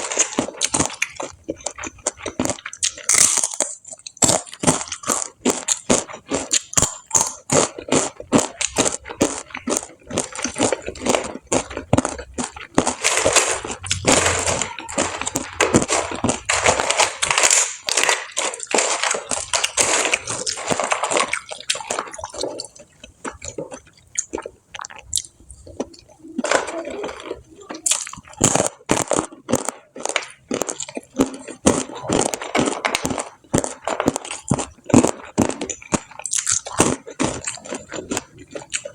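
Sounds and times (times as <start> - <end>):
chewing crunchy fried food: 0.0 - 38.9.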